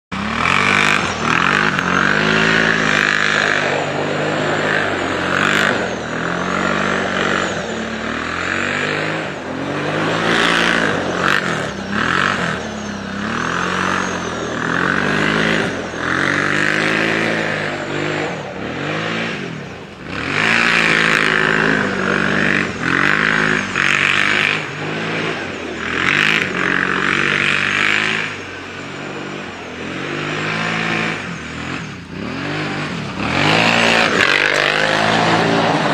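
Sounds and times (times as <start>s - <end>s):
atv engine revving: 0.1s - 35.9s.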